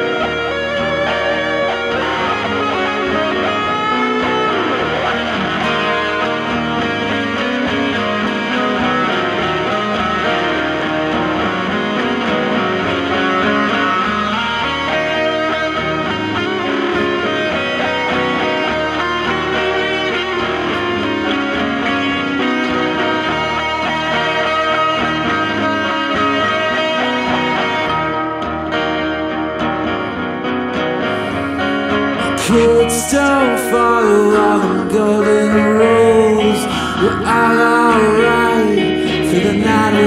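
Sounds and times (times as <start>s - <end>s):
acoustic guitar picking and strumming: 0.0s - 40.0s.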